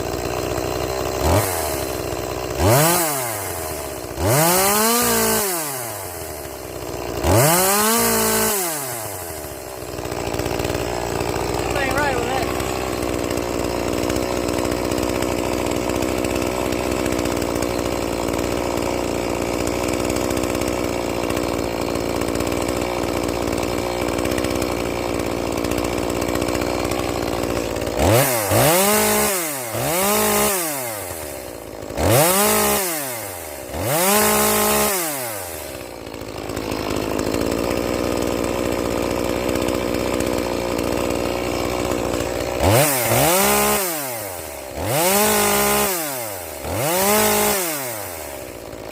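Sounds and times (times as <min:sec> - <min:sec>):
chainsaw engine idling and revving: 0:00.0 - 0:48.9.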